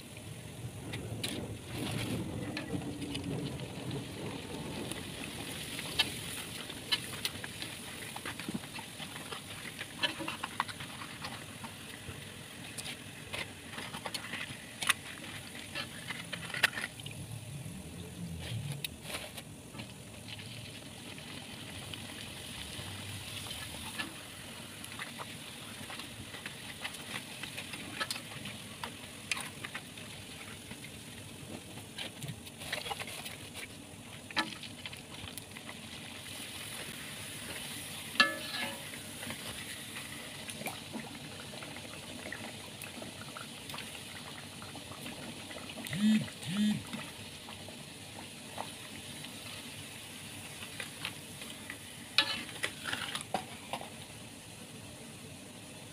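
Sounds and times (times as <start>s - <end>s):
crackers frying in hot oil: 0.0s - 55.9s.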